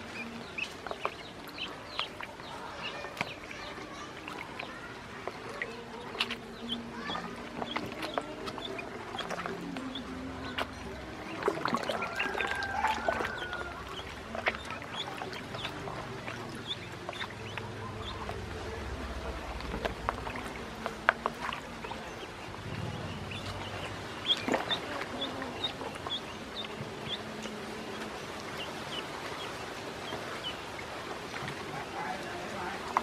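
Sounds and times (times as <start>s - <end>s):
ducklings peeping: 0.0s - 33.0s
water splashing: 0.0s - 33.0s.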